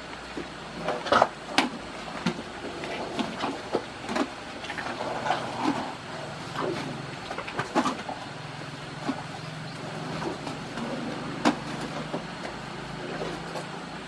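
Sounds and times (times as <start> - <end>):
elephants crunching food: 0.2 - 14.0.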